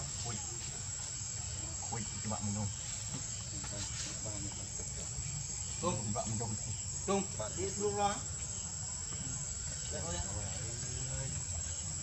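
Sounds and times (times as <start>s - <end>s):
faint low voices: 0.0s - 12.0s
insects droning: 0.0s - 12.0s.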